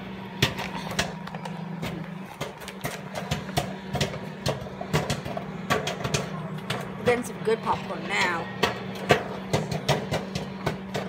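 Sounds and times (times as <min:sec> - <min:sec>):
microwave oven hum: 0:00.0 - 0:11.0
popcorn popping: 0:00.0 - 0:11.0.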